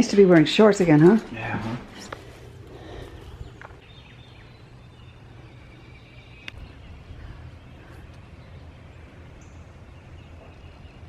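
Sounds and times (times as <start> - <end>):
steady low rumble: 0.5 - 11.0
faint bird calls: 2.0 - 11.0.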